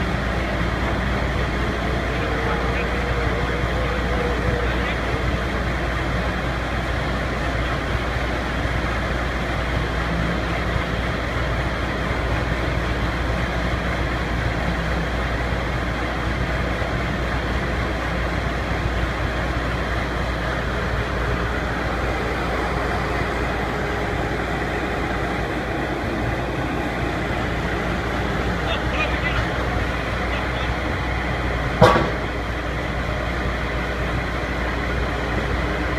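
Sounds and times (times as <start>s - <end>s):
pile-driving rig engine running: 0.0s - 35.9s.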